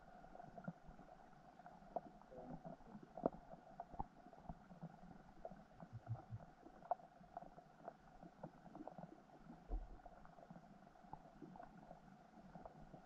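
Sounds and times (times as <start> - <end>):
dull low underwater rumble: 0.0 - 13.0
underwater clicks and ticks: 0.0 - 13.0.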